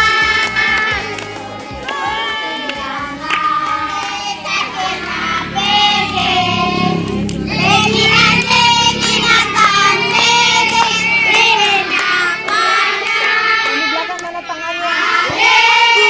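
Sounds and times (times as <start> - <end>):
children singing together: 0.0 - 16.0.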